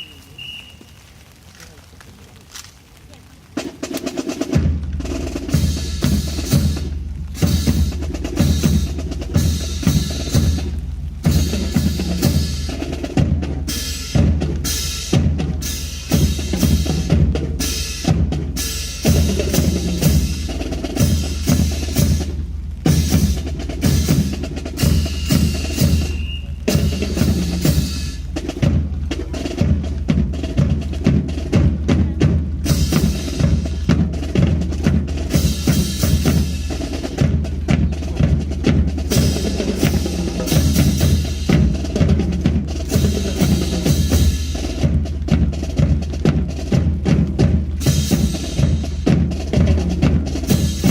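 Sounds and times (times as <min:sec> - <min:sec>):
snare and bass drums playing: 0:03.5 - 0:50.9.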